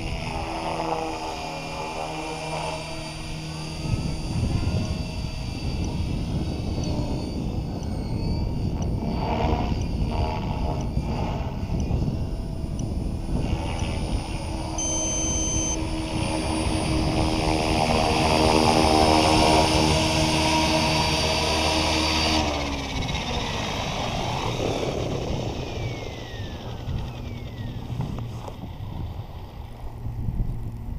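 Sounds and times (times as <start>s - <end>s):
rc helicopter rotor whine: 0.0s - 30.9s.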